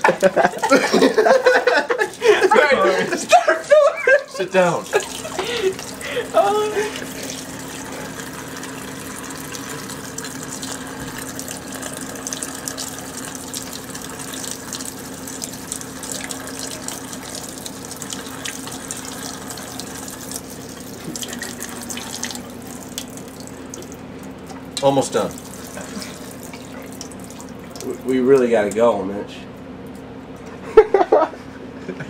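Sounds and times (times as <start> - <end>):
faucet water filling a can: 0.0 - 28.9.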